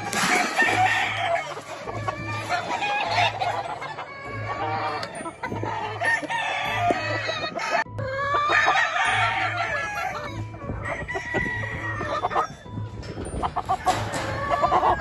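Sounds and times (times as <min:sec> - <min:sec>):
roosters crowing: 0:00.0 - 0:12.8, 0:13.6 - 0:15.0
background music with low beat: 0:00.0 - 0:15.0
hens clucking: 0:00.0 - 0:15.0.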